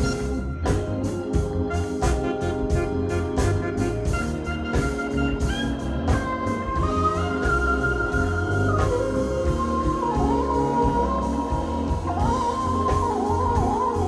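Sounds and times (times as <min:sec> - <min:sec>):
funk band playing: 0:00.0 - 0:14.0.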